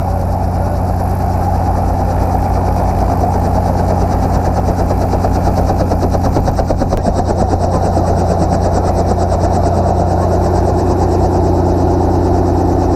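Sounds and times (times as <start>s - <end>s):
helicopter engine hum: 0.0s - 12.9s
rotor beating: 0.1s - 12.9s.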